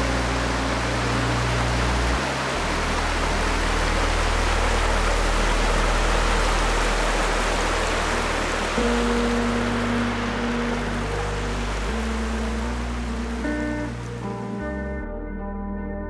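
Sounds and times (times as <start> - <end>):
stream rushing over rocks: 0.0 - 14.6
low background music: 0.0 - 16.0.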